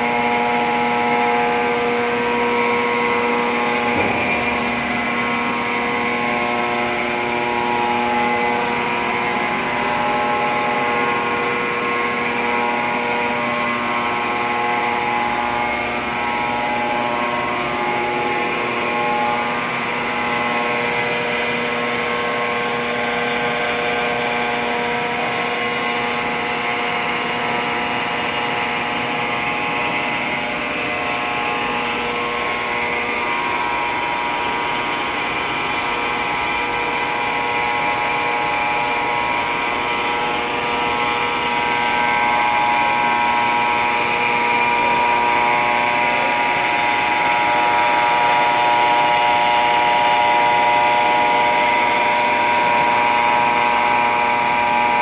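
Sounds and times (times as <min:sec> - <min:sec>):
machinery hum: 0:00.0 - 0:55.0.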